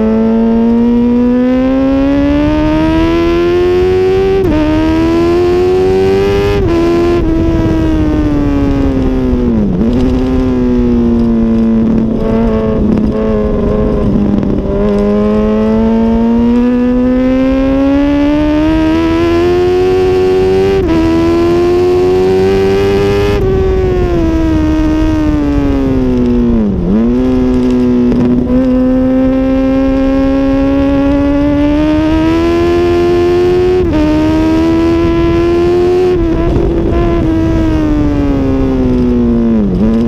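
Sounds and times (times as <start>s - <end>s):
motorcycle engine at racing revs: 0.0s - 40.0s.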